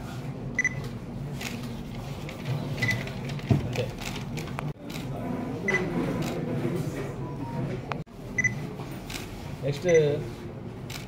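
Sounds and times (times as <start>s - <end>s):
low room murmur: 0.0s - 11.0s.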